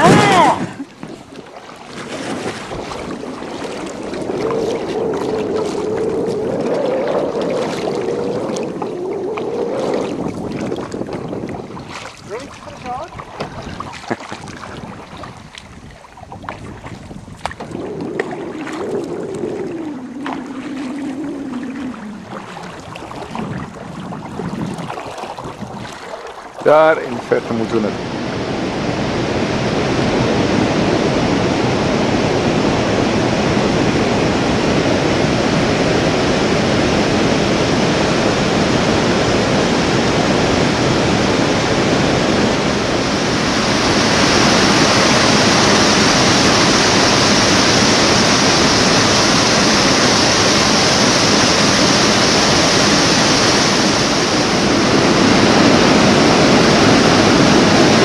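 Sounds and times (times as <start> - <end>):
fast-flowing water rushing: 0.0 - 58.0.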